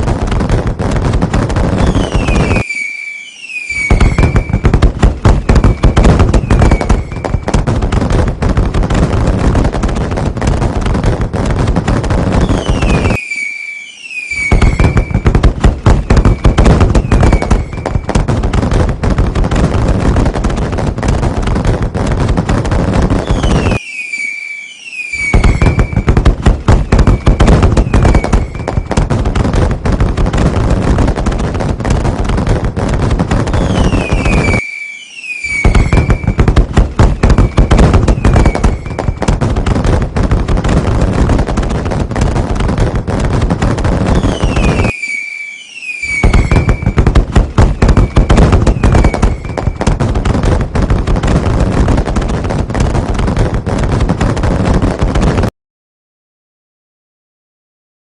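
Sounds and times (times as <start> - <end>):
falling firework whistles: 0.0 - 52.8
fireworks bangs and crackling: 0.0 - 55.5.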